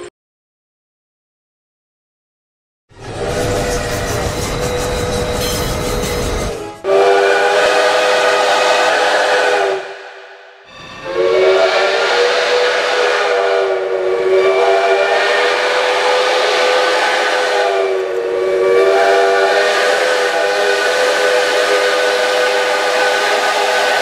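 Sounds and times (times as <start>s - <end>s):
steam hissing: 3.0s - 24.0s
steam whistle blasts: 3.0s - 24.0s.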